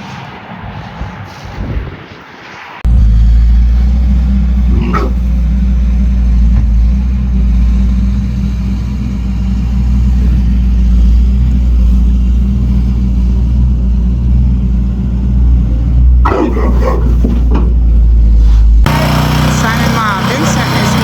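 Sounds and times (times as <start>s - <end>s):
engine rumbling: 2.8s - 21.0s.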